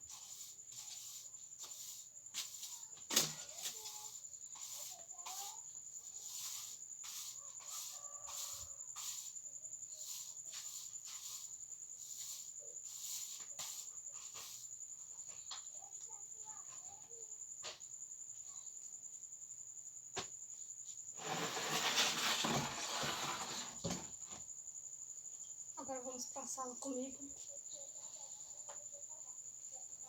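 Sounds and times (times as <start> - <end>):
high-pitched insect trill: 0.0 - 30.0.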